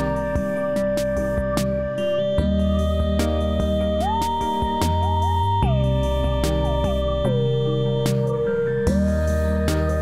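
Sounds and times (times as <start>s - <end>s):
sustained bass notes: 0.0s - 10.0s.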